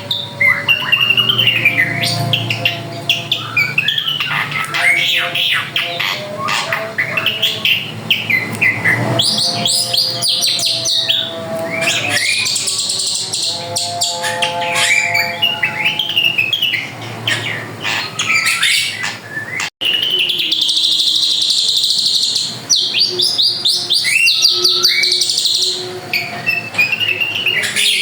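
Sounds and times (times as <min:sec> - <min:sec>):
bird singing chirps and whistles: 0:00.0 - 0:28.0.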